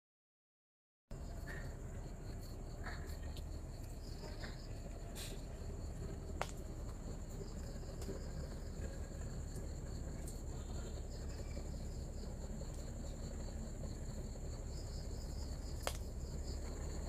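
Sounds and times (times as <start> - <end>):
insects trilling: 1.1 - 17.0
pulsing cricket chirp: 1.1 - 17.0.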